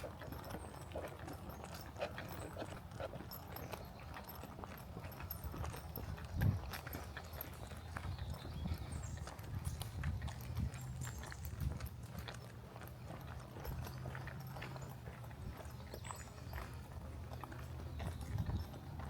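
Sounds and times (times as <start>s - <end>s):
footsteps on trail: 0.0s - 19.0s.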